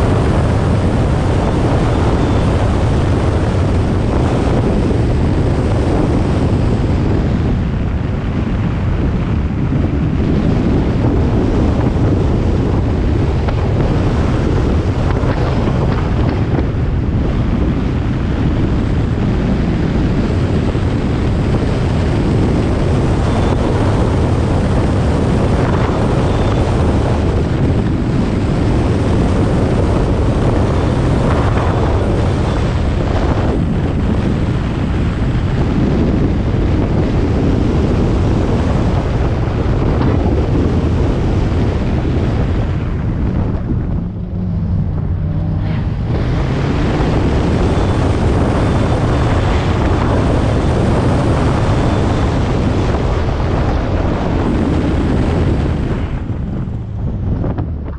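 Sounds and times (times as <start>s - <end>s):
car engine driven hard: 0.0s - 57.9s
wind buffeting microphone: 0.0s - 57.9s.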